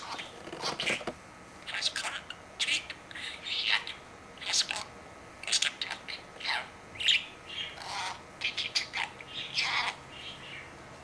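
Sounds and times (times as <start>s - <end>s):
budgerigar chattering: 1.7s - 10.7s.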